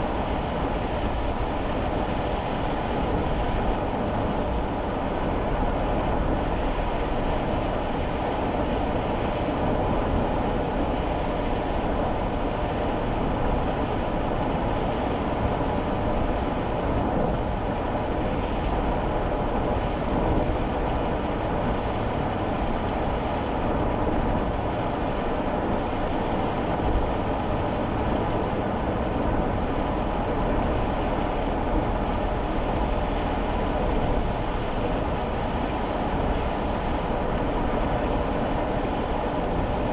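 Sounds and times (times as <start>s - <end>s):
road and tyre noise in car: 0.0s - 39.9s.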